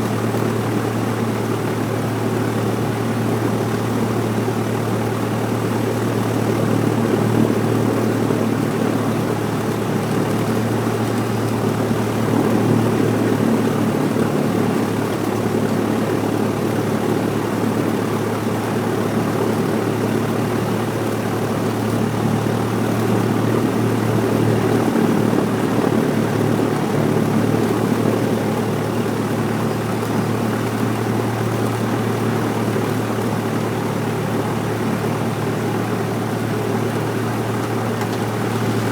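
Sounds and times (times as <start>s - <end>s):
airplane engine droning: 0.0s - 38.9s.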